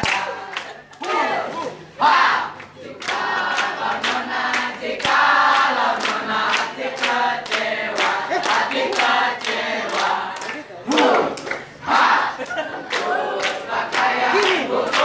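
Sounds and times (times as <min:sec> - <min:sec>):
hand claps: 0:00.0 - 0:01.2, 0:02.6 - 0:11.7, 0:12.4 - 0:15.0
group of people singing: 0:00.0 - 0:15.0.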